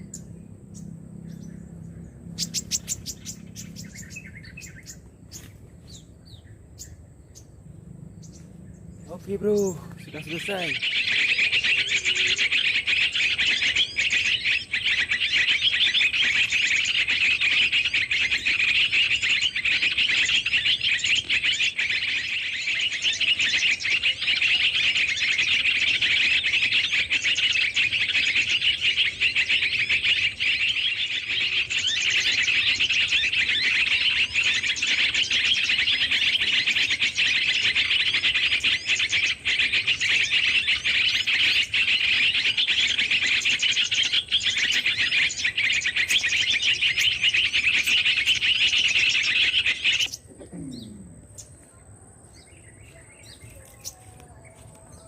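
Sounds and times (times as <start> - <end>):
small songbirds chattering: 0.0 - 55.0.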